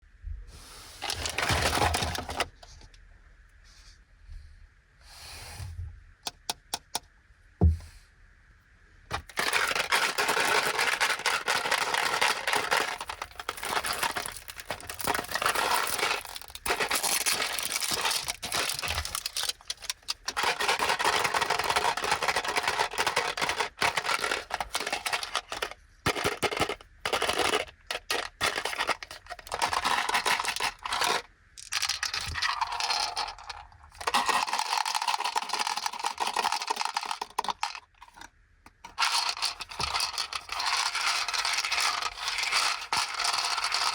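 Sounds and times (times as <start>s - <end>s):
plastic packaging crinkling: 1.0s - 2.6s, 9.1s - 38.2s, 38.9s - 43.9s.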